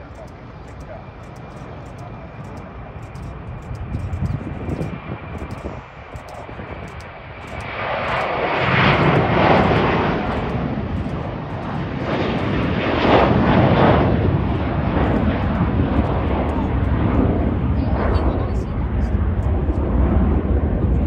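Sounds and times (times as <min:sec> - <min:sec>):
jet airliner taking off: 0:00.0 - 0:21.0.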